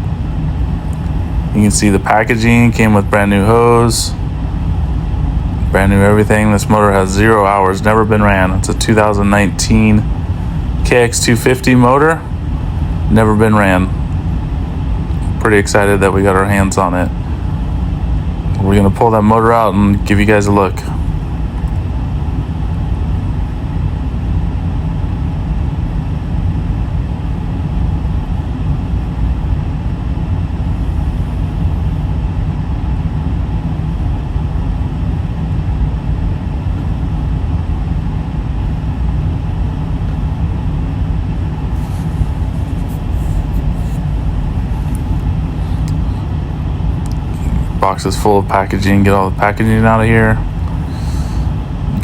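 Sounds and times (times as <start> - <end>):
low rumbling background noise: 0.0 - 52.0.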